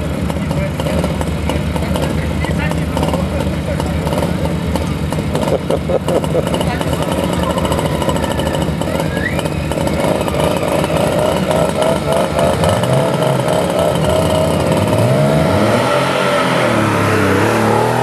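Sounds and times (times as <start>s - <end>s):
engines revving: 0.0s - 18.0s.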